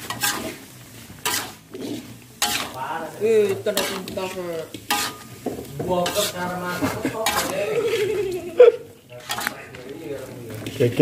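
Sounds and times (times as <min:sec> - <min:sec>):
spatula scraping and knocking wok: 0:00.0 - 0:11.0.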